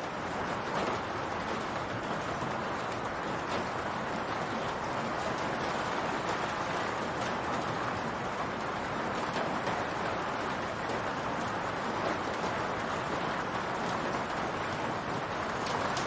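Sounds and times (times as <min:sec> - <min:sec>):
individual raindrops: 0:00.0 - 0:16.0
rain falling on a roof: 0:00.0 - 0:16.0.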